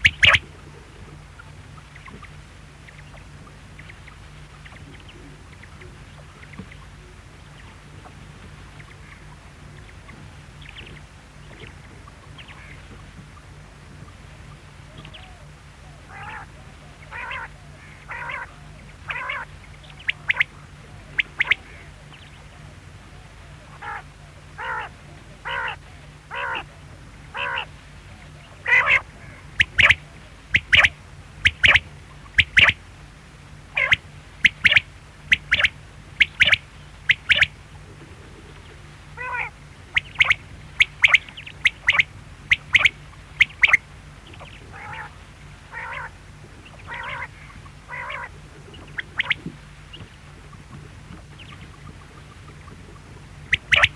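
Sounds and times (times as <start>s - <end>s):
quail calling: 0.0s - 13.0s, 14.8s - 32.8s, 33.7s - 53.9s
steady low hum: 0.0s - 53.9s.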